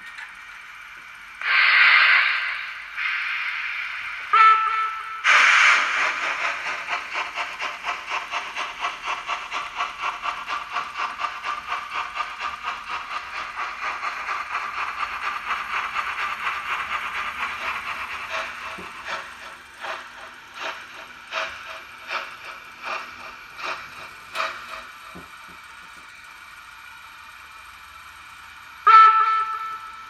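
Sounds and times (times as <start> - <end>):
locomotive chuffing: 0.0 - 30.0
steam hiss: 0.5 - 30.0.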